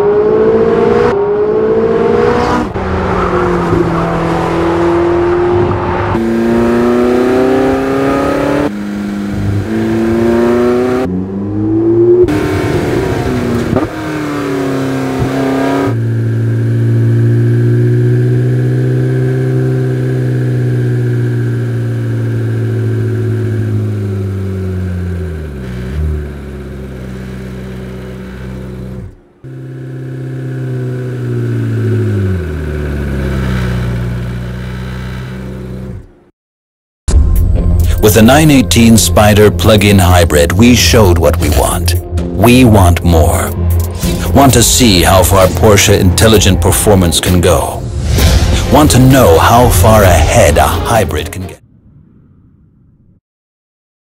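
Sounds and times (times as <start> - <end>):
sports car engine revving: 0.0 - 36.2, 37.8 - 51.4.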